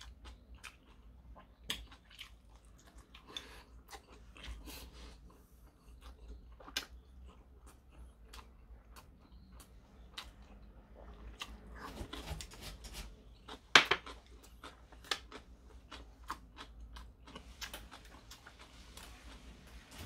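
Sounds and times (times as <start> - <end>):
person chewing: 0.0 - 20.0.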